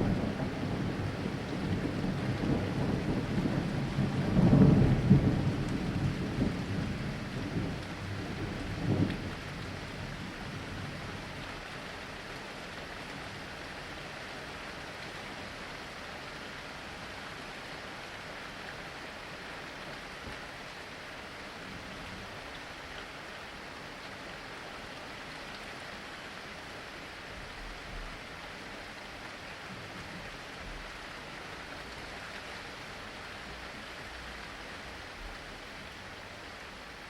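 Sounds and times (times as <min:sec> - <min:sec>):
steady rainfall: 0:00.0 - 0:37.0.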